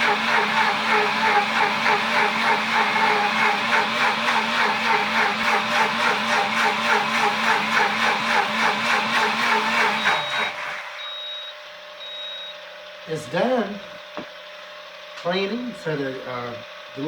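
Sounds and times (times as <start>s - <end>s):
blender pulsing whir: 0.0s - 17.0s.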